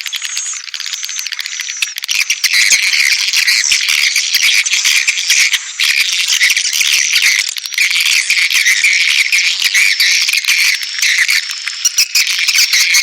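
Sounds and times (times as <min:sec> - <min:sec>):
rapid bird chirps and twittering: 0:00.0 - 0:13.0.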